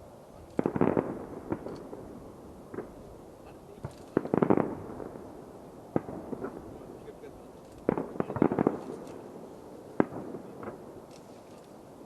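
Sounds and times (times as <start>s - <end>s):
fireworks shells bursting: 0.4s - 3.0s, 3.8s - 5.3s, 5.9s - 11.8s.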